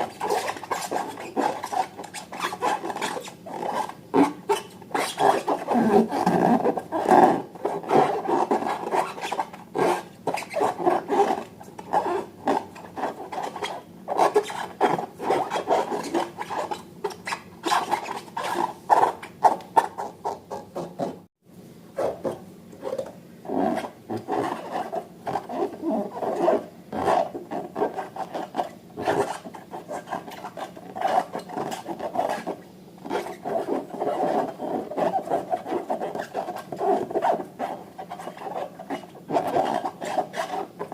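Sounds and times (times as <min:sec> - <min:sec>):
slime and balloons rubbing: 0:00.0 - 0:21.3, 0:22.0 - 0:40.9.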